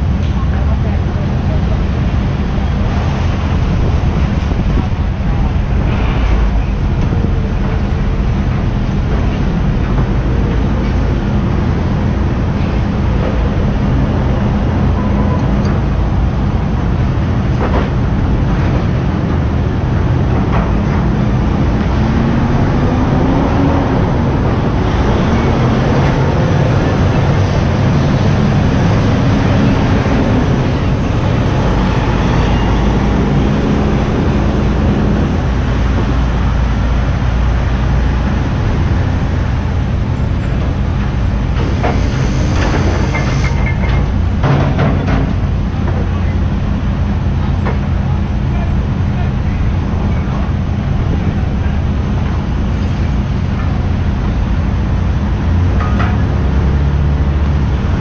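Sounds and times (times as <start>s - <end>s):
diesel engines droning: 0.0s - 58.0s
truck passing by: 0.0s - 58.0s.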